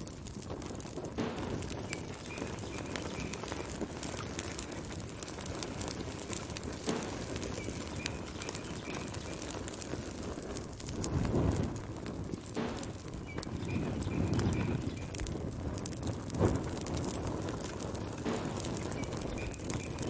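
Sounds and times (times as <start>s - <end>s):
fire crackling and popping: 0.0s - 20.0s
roar of flames: 0.0s - 20.0s.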